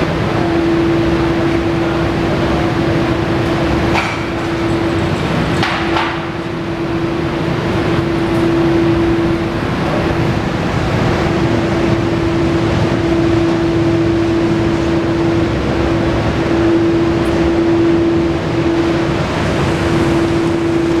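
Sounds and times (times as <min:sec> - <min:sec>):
constant mid-pitched tone: 0:00.0 - 0:21.0
machinery humming: 0:00.0 - 0:21.0.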